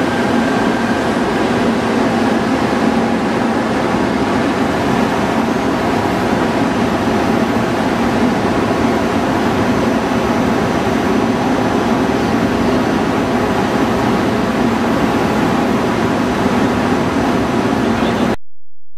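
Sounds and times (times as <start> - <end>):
air-conditioning units humming: 0.0 - 18.4.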